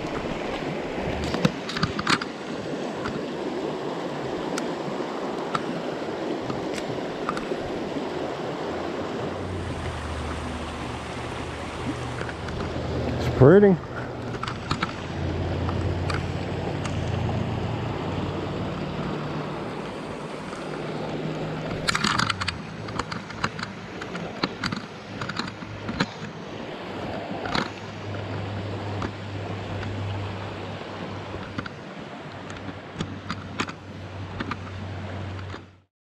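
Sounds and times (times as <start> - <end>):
creek rushing over rocks: 0.0 - 35.8.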